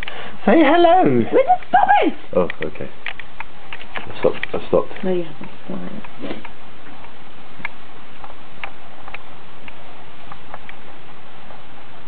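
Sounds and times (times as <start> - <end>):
recording hiss: 0.0 - 12.0.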